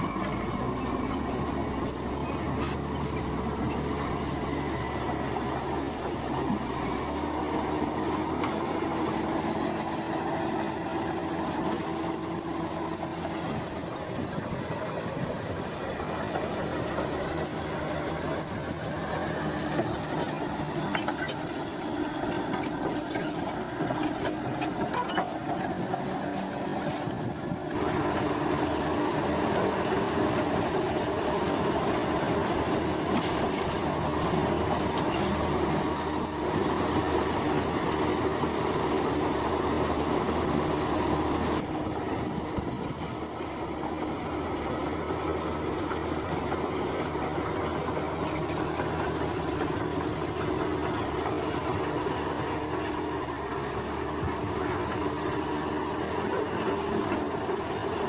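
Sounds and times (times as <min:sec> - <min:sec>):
bulldozer diesel engine running: 0:00.0 - 0:58.0
steel tracks squealing: 0:00.0 - 0:58.0.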